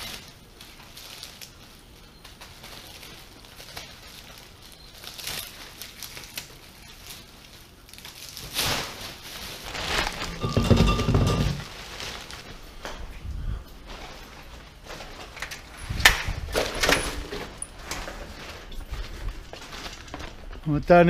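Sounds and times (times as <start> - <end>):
plastic bag rustling and crinkling: 0.0 - 21.0.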